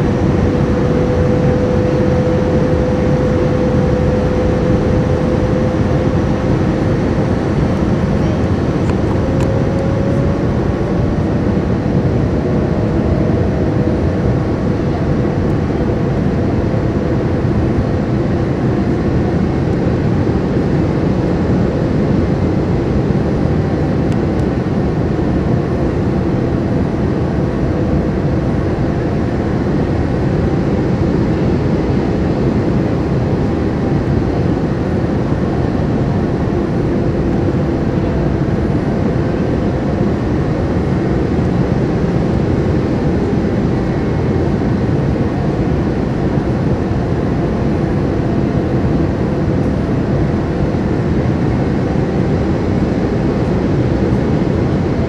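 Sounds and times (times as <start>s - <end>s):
aircraft engine hum: 0.0s - 55.0s.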